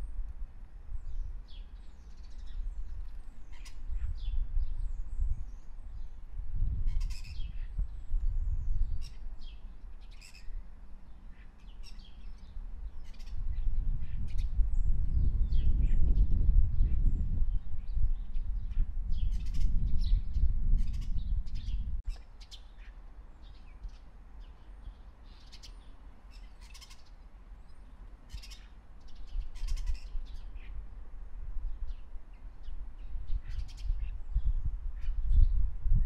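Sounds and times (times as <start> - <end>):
birds calling and chirping: 1.0 - 6.2, 6.8 - 30.8, 31.7 - 35.6.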